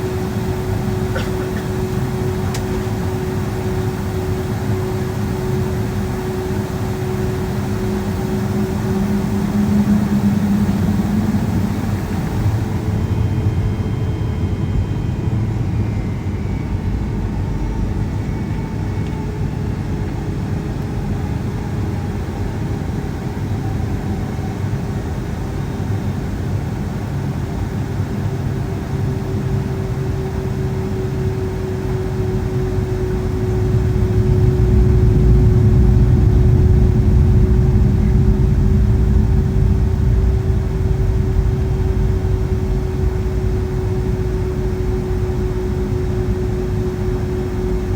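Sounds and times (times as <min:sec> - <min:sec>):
jet engine rumble in cabin: 0:00.0 - 0:47.9.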